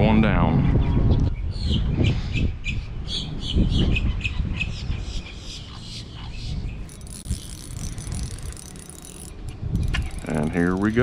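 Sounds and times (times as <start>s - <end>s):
birds chirping: 0.0s - 11.0s
wind buffeting microphone: 0.0s - 11.0s.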